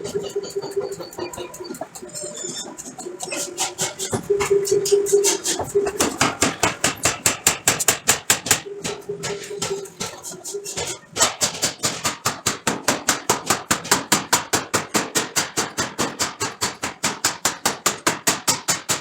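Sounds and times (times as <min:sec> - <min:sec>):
forging hammer striking steel: 0:00.0 - 0:19.0.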